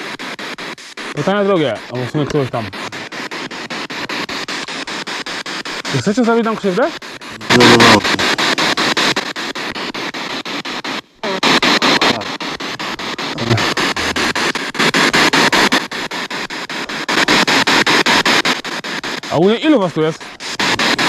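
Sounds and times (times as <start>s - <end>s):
radio static with rapid clicks: 0.0s - 21.0s.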